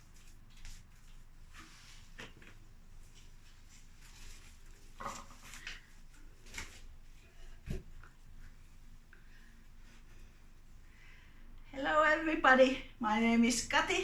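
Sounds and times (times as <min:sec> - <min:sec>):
faint rustles: 0:00.0 - 0:11.6
low background hum: 0:00.0 - 0:14.0.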